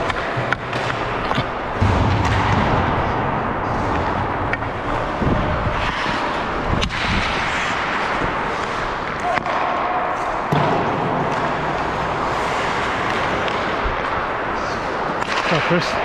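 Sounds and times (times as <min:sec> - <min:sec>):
sticks clacking on puck: 0:00.0 - 0:02.4, 0:03.8 - 0:05.1, 0:05.7 - 0:16.0
ice hockey play on ice: 0:00.0 - 0:16.0.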